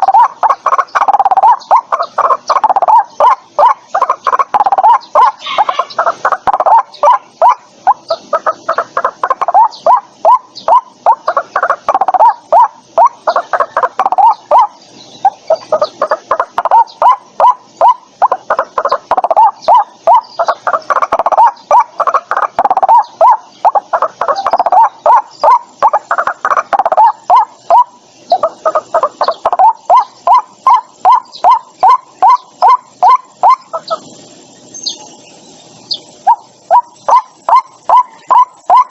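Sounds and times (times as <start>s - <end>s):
waterhen calling repeated notes: 0.0s - 38.9s.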